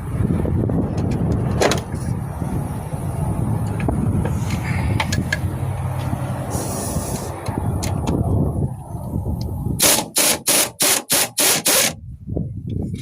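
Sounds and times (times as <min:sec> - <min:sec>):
wind buffeting microphone: 0:00.0 - 0:10.6, 0:11.4 - 0:13.0.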